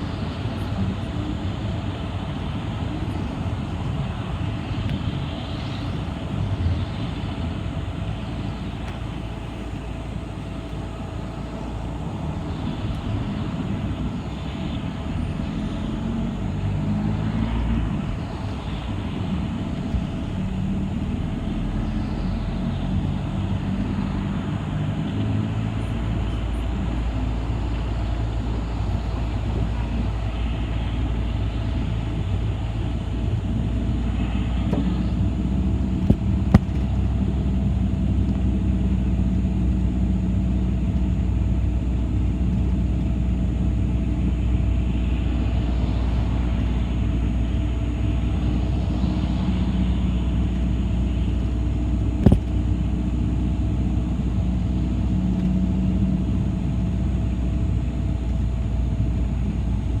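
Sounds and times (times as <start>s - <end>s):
bus engine and road rumble: 0.0s - 60.0s.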